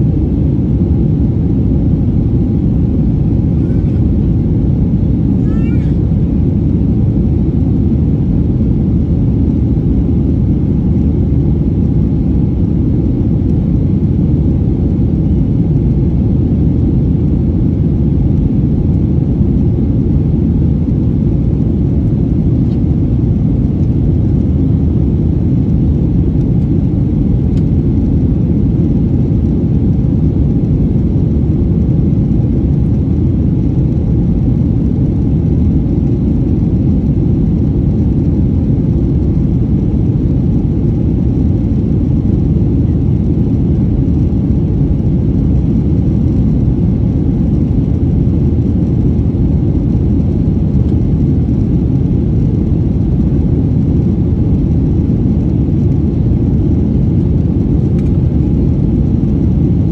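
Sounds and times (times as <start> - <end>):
jet engine drone: 0.0 - 59.9.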